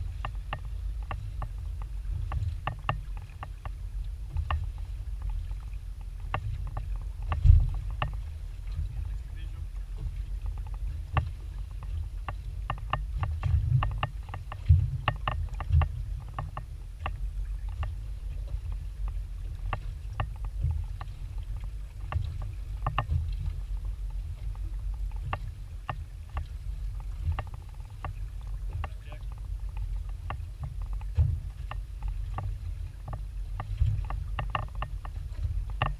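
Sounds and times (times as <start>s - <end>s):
water lapping against boat hull: 0.0s - 35.9s.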